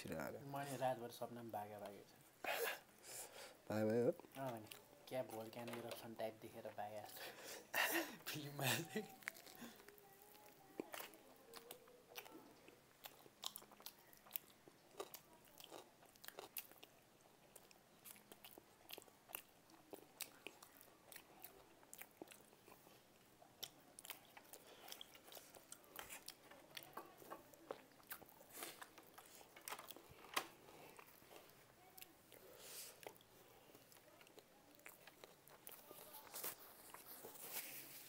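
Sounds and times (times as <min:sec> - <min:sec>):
faint chewing and biting food: 0:01.6 - 0:06.1, 0:08.3 - 0:38.0.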